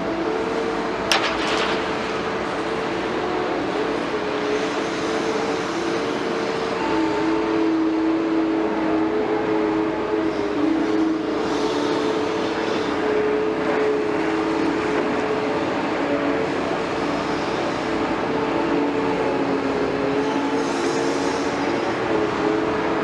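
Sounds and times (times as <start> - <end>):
excavator engine drone: 0.0 - 23.0.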